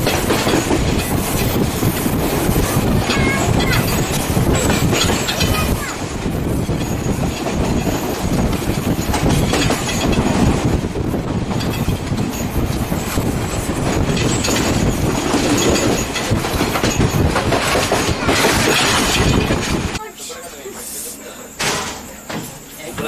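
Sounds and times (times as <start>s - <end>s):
irregular rail clacks: 0.0s - 20.0s
train carriages rumbling on rails: 0.0s - 20.9s, 21.5s - 23.0s.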